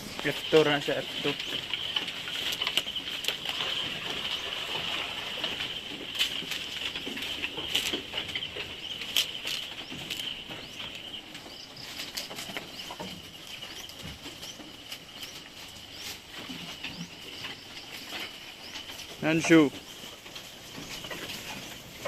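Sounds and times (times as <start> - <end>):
goats tapping and shuffling: 0.0 - 22.0.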